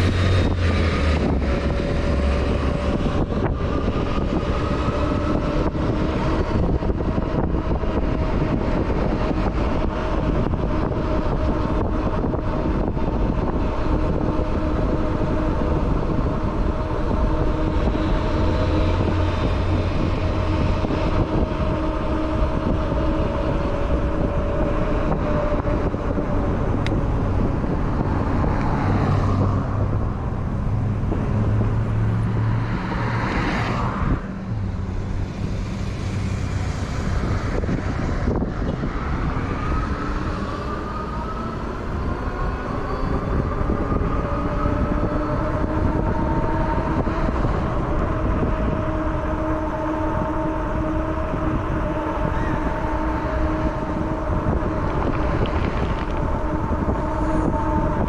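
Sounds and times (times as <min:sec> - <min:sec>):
electric bike rumble and whine: 0:00.0 - 0:58.0
road traffic passing: 0:00.0 - 0:58.0
vehicle engine: 0:00.0 - 0:58.0.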